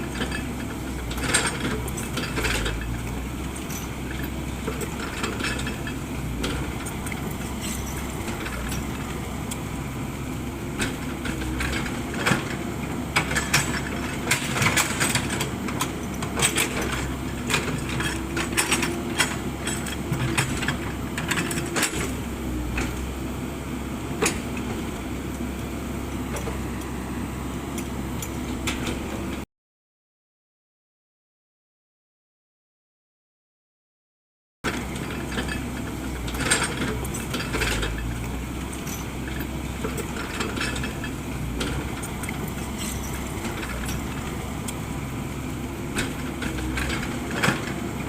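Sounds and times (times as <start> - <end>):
excavator diesel engine: 0.0 - 29.4, 34.6 - 48.0.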